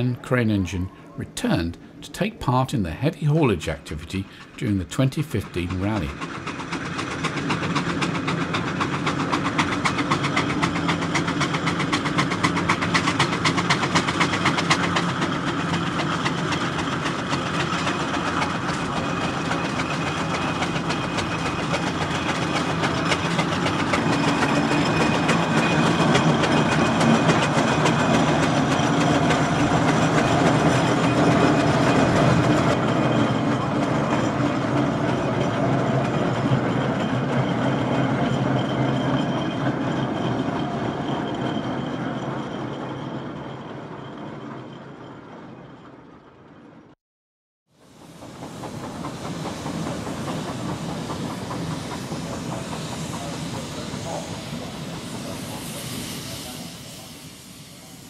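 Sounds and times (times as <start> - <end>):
steam engine exhaust clatter: 3.4 - 44.2, 47.8 - 58.0.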